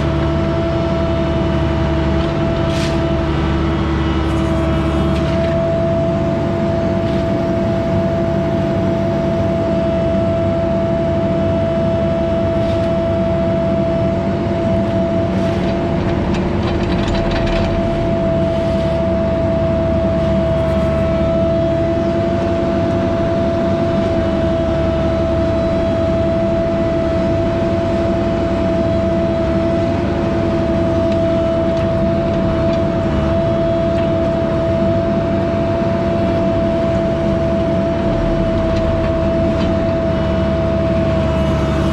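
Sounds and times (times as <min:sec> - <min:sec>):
diesel engine running at high revs: 0:00.0 - 0:41.9.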